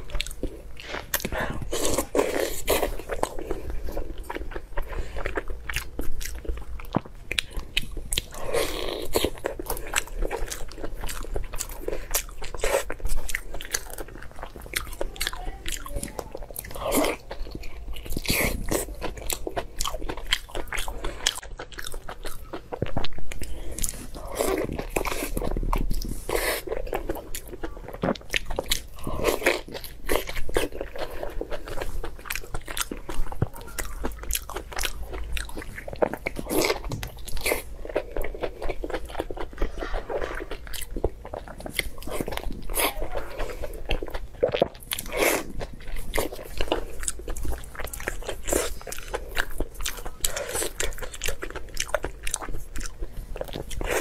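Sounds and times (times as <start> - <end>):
person chewing sausage: 0.0 - 54.0.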